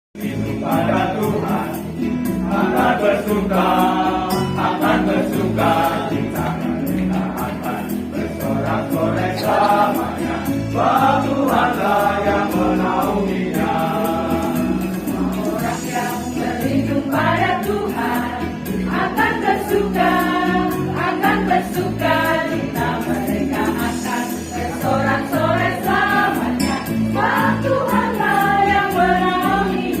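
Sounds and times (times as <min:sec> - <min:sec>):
choir singing a hymn: 0:00.2 - 0:30.0.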